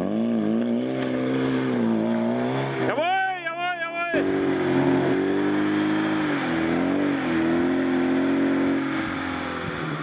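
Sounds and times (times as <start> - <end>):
car engine working hard: 0.0 - 3.0, 4.2 - 10.0.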